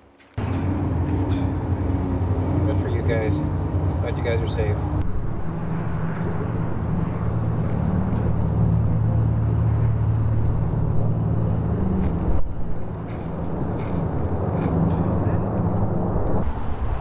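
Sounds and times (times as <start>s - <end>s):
propeller aircraft engine drone: 0.4s - 17.0s.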